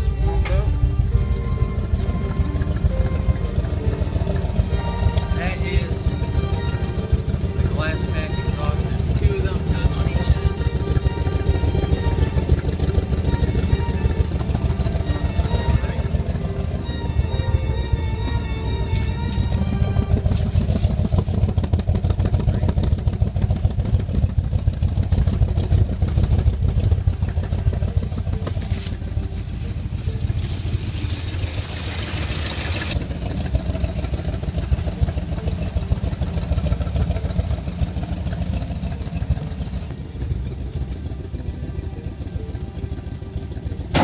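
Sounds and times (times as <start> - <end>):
pickup engine rumbling: 0.0 - 44.0.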